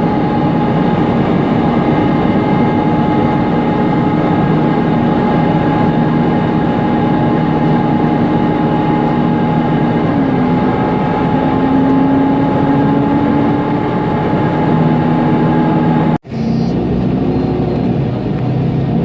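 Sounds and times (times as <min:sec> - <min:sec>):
bus engine running: 0:00.0 - 0:19.0
cooling fan whine: 0:00.0 - 0:19.0.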